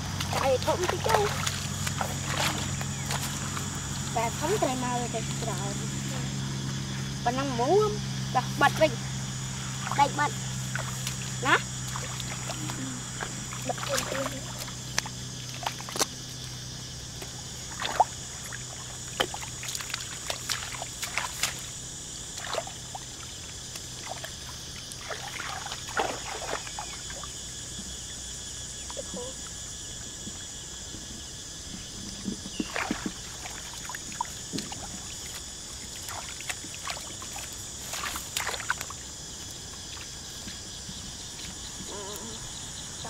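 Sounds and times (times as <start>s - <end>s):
splashing in muddy water: 0.0s - 6.4s, 7.8s - 27.5s, 32.1s - 42.0s.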